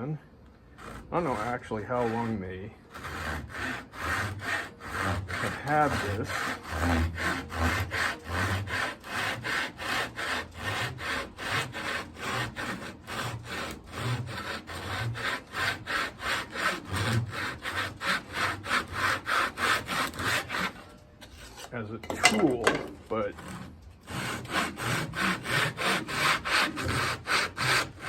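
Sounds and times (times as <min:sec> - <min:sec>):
hand saw cutting wood: 0:00.7 - 0:28.0.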